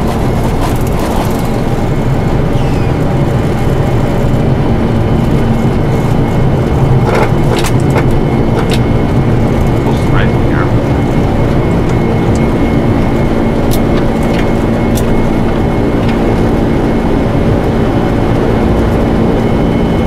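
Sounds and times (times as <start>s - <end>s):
engine and airflow rumble: 0.0s - 20.0s.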